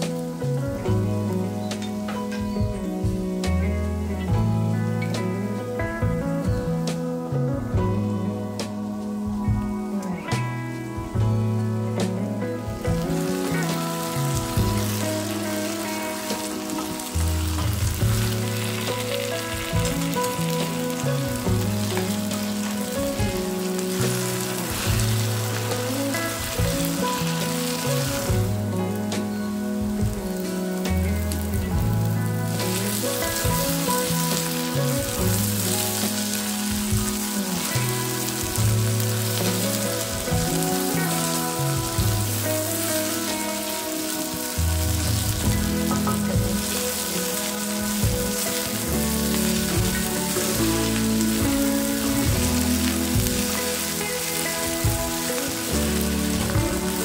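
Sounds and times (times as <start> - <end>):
background music with low notes: 0.0 - 57.0
onion sizzling in hot oil: 0.0 - 57.0.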